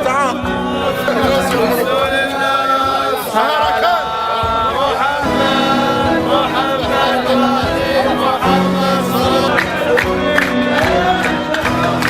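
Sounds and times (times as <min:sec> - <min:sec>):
sharp percussive beat: 0:00.0 - 0:12.0
voices singing together: 0:00.0 - 0:12.0.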